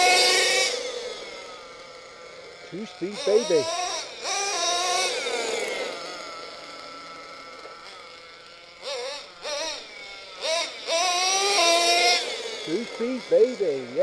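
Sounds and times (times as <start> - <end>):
engine throttle blips: 0.0 - 14.0
small nitro engine revving: 0.0 - 14.0.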